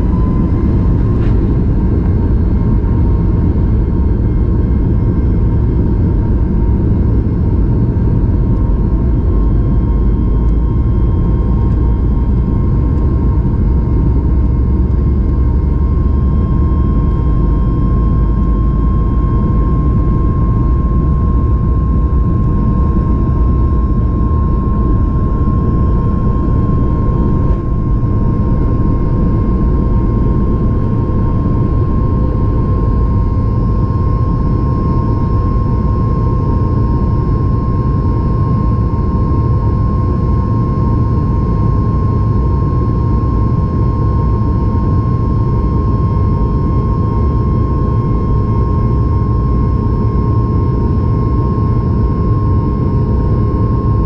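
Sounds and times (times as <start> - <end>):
jet cabin engine rumble: 0.0 - 54.0
mid-pitched engine whine: 0.0 - 54.0.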